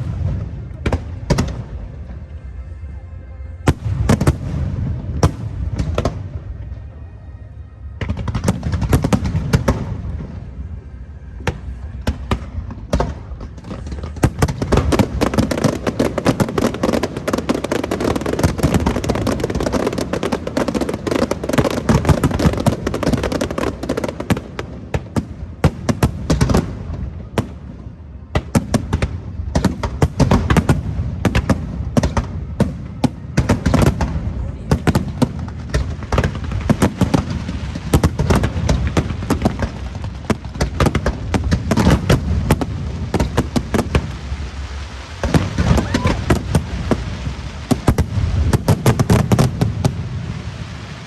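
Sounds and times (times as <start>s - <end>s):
fireworks cracking and banging: 0.0s - 2.6s, 3.6s - 7.0s, 7.8s - 51.0s.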